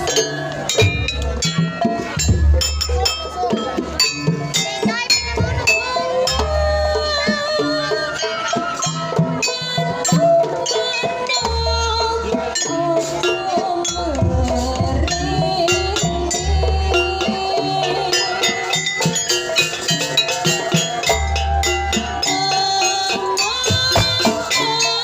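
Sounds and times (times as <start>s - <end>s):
busy percussion strikes: 0.0s - 25.0s.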